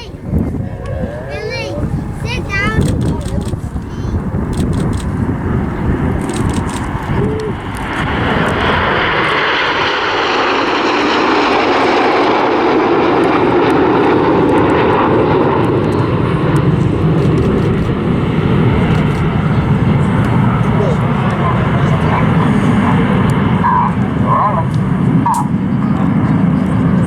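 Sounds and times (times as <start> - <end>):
jets flying past: 0.0 - 27.0.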